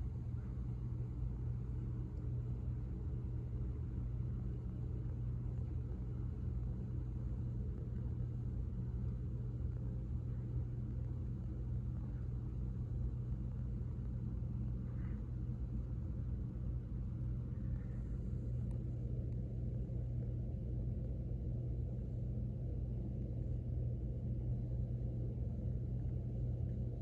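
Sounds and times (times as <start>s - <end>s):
low rumble: 0.0s - 27.0s
steady low hum: 0.0s - 27.0s.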